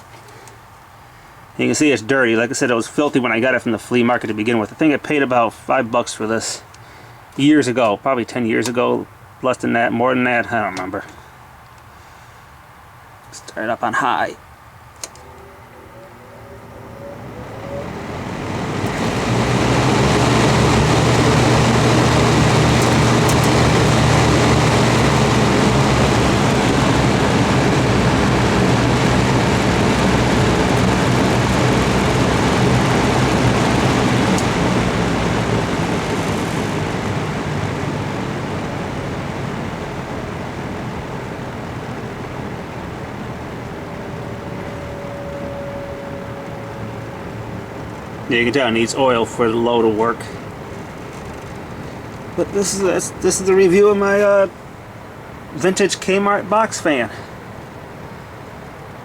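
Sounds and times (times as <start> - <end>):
box fan running: 10.8 - 59.0.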